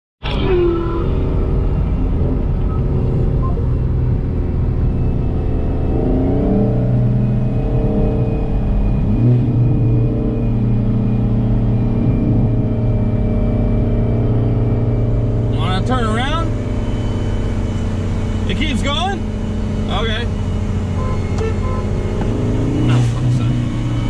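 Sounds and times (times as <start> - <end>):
car engine drone in cabin: 0.2 - 24.0.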